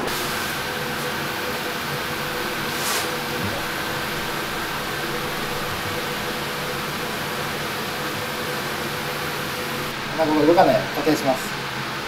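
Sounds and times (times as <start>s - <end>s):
ventilation fan running: 0.0s - 12.0s.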